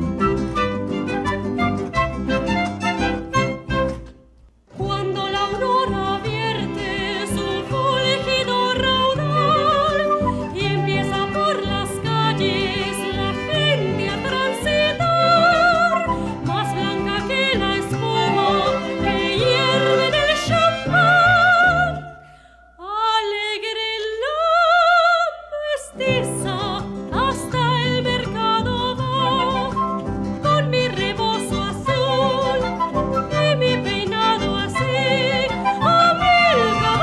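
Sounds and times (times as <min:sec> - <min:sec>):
acoustic guitar: 0:00.0 - 0:37.0
soprano singing with vibrato: 0:04.8 - 0:37.0.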